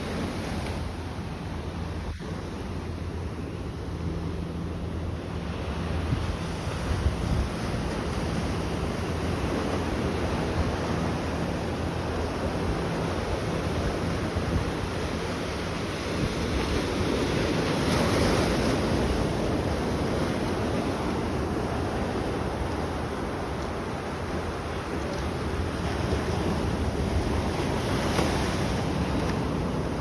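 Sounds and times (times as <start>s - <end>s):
ocean waves washing: 0.0s - 30.0s
wind buffeting microphone: 0.0s - 30.0s.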